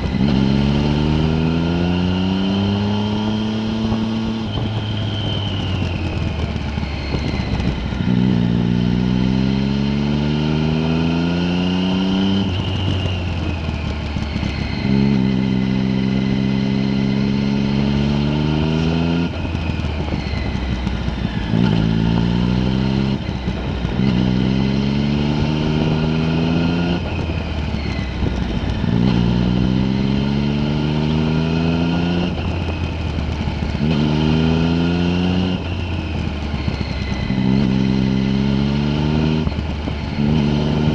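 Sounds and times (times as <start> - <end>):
vehicle engine accelerating: 0.0 - 40.9.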